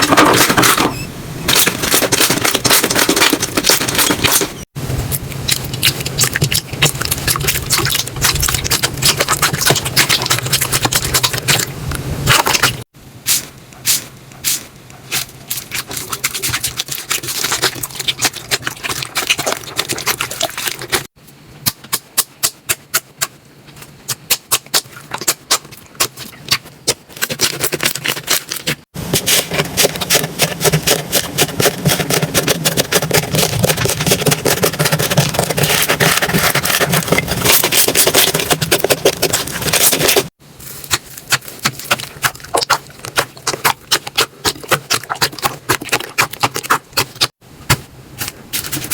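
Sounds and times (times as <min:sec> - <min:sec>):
slime popping and crackling: 0:01.5 - 0:11.7, 0:12.3 - 0:23.3, 0:24.1 - 0:47.4.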